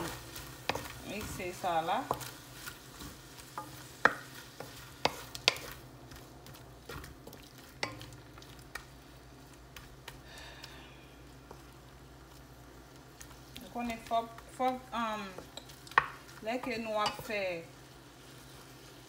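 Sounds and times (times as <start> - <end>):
faint sizzle: 0.0 - 19.0
wooden spoon stirring in pot: 0.0 - 19.0.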